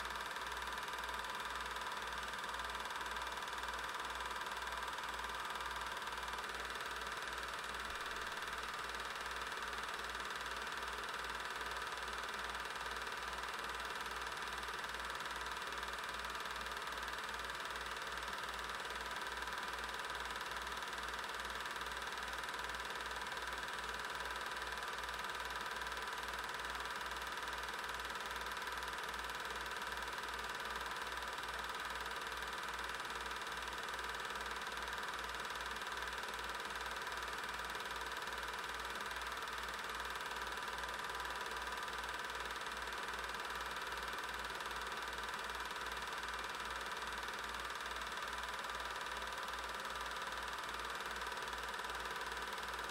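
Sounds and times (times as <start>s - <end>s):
film projector whirring: 0.0s - 52.9s.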